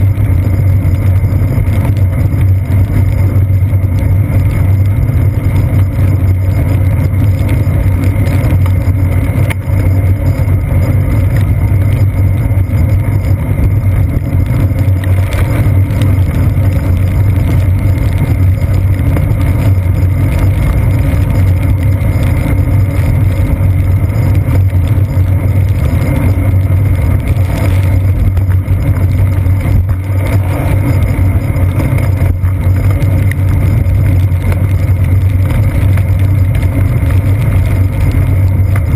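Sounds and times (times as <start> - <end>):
road vibration rumble: 0.0 - 38.9.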